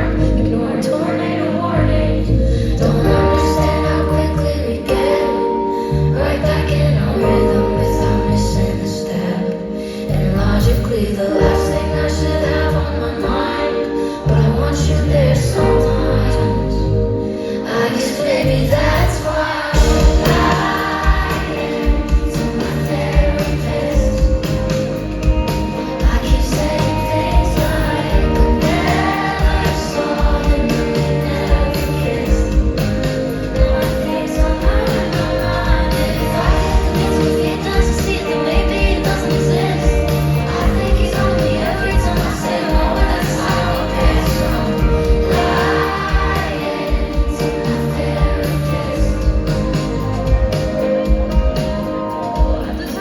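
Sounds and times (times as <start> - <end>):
crowd singing along: 0.0 - 53.0
live pop band playing: 0.0 - 53.0
woman singing lead vocal: 0.0 - 53.0.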